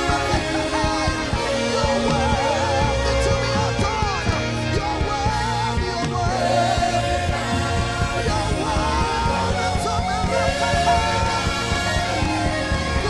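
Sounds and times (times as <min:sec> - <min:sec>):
band with bass and drums: 0:00.0 - 0:13.0
person singing long notes: 0:00.0 - 0:13.0.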